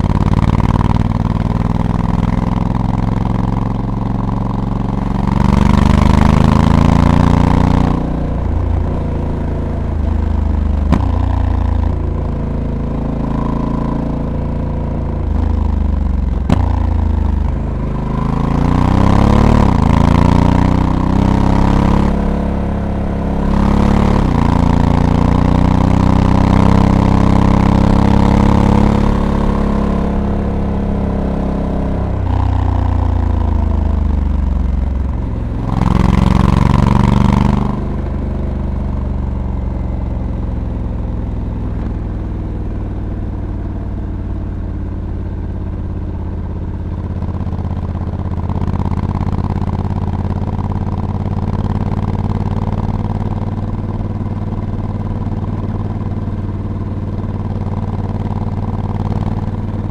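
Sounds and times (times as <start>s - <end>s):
motorcycle engine pulling under throttle: 0.0s - 59.9s.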